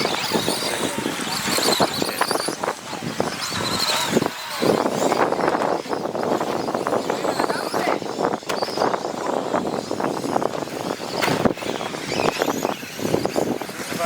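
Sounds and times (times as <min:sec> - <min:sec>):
motor whines: 0:00.0 - 0:14.0
rc trucks clattering on dirt: 0:00.0 - 0:14.0.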